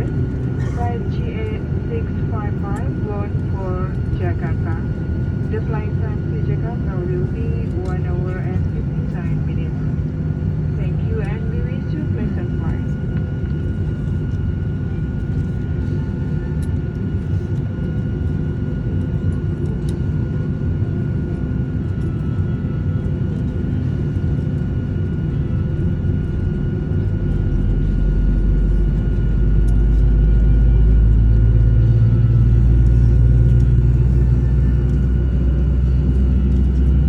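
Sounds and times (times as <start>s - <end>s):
airliner cabin rumble and hum: 0.0s - 37.0s.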